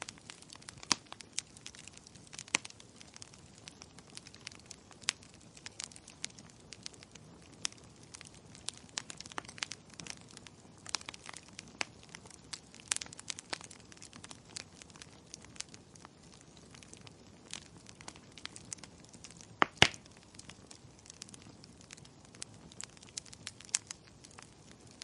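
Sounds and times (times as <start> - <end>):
loud fire pops: 0.0 - 25.0
wood fire crackling: 0.0 - 25.0.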